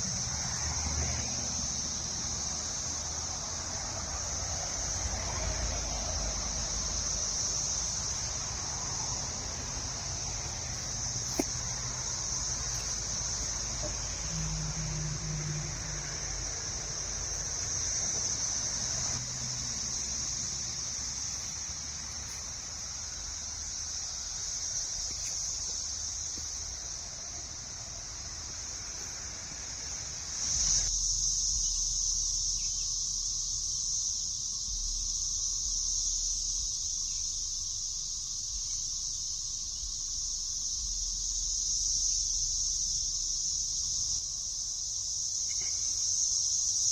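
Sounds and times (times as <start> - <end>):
cicadas buzzing: 0.0 - 46.9.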